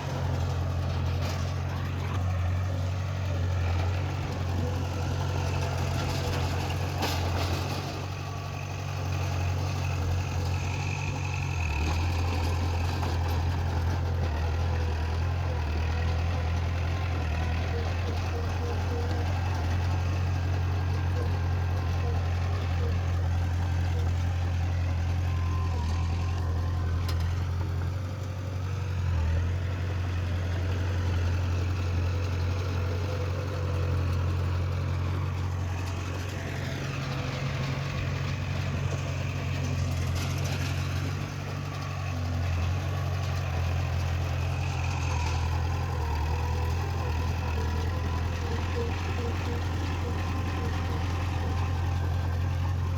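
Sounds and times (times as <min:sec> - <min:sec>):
heavy diesel engine droning: 0:00.0 - 0:52.9.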